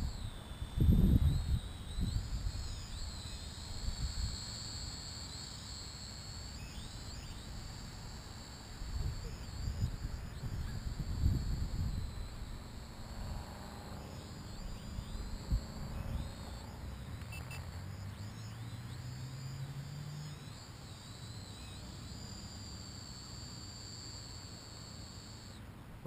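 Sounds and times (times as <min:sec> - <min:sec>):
drone motors whining: 0:00.0 - 0:25.7
outdoor background noise: 0:00.0 - 0:26.0.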